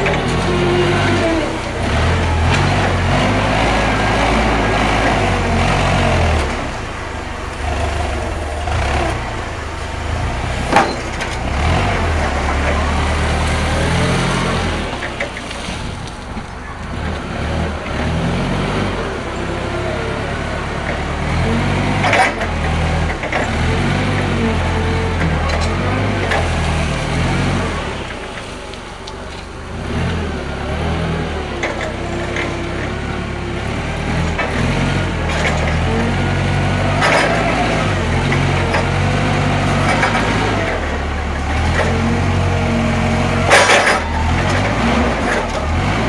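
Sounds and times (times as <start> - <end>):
forklift engine revving: 0.0 - 46.0.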